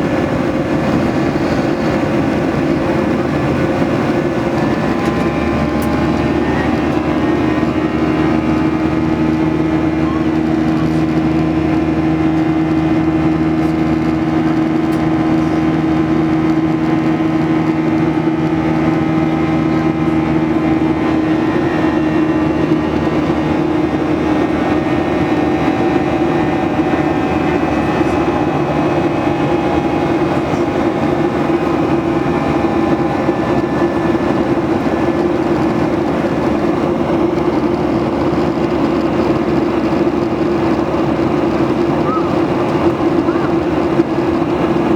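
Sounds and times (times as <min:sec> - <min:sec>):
jet engine drone in cabin: 0:00.0 - 0:44.9.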